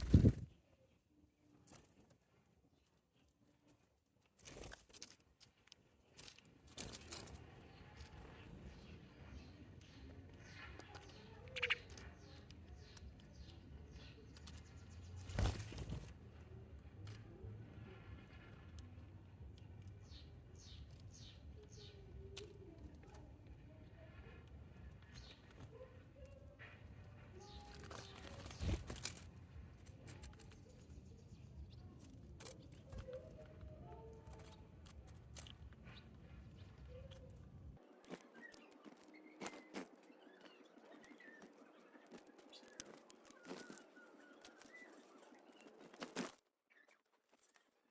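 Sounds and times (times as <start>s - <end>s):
sparrows chirping: 0.0s - 47.0s
birds clicking and tapping at feeder: 1.6s - 17.5s, 18.4s - 46.2s.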